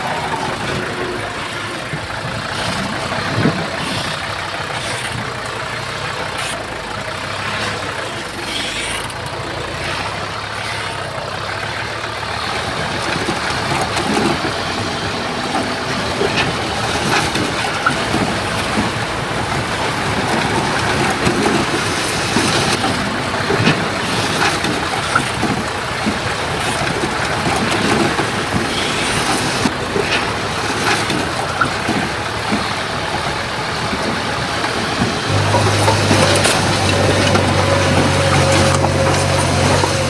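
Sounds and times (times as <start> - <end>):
heavy machinery running: 0.0 - 40.0
knocks and clatter: 0.0 - 40.0.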